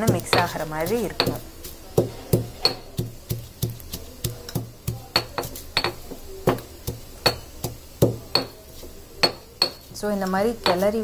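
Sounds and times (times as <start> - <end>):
stone pestle pounding in mortar: 0.0 - 8.6, 9.2 - 9.9, 10.6 - 11.0.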